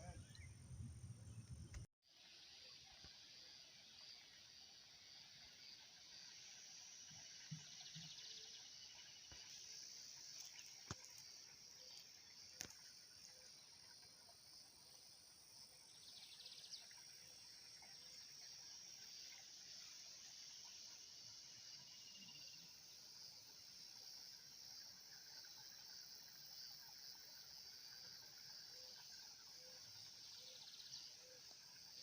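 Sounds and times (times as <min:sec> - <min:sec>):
high-pitched insect chorus: 0:02.2 - 0:32.0.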